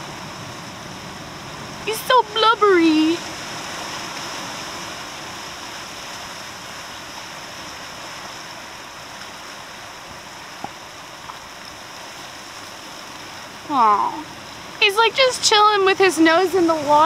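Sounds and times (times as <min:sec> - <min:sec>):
ocean water rushing over rocks: 0:00.0 - 0:17.0.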